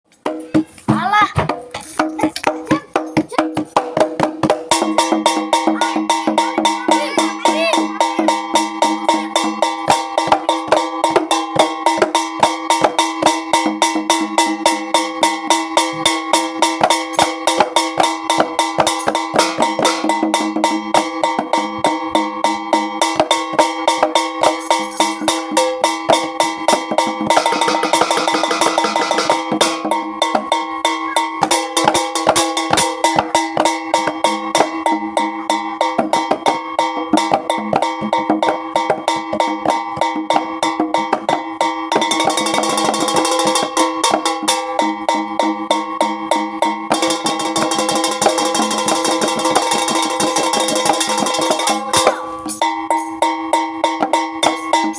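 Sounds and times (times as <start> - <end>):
fast drum strikes: 0.2 - 54.9
ringing metal gamelan tones: 4.7 - 54.9.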